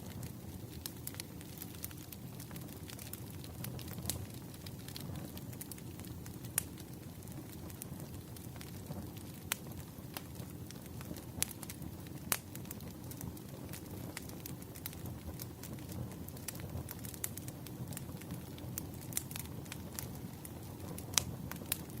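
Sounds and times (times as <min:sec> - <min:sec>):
firewood crackling and popping: 0:00.0 - 0:22.0
low rumble of flames: 0:00.0 - 0:22.0.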